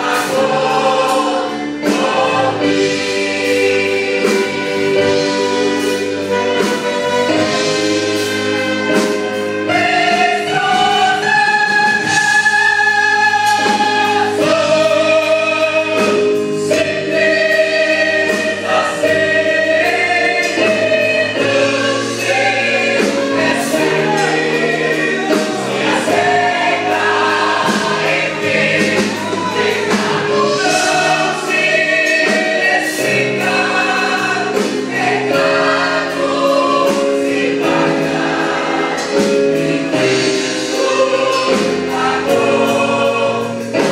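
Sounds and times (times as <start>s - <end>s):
choir singing a hymn: 0.0s - 43.9s
instrumental accompaniment with bass and beat: 0.0s - 43.9s.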